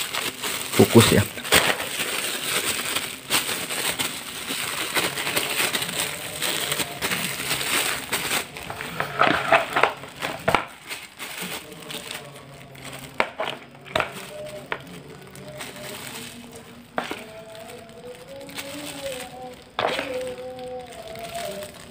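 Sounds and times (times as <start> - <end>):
plastic bag crinkling: 0.0 - 21.9.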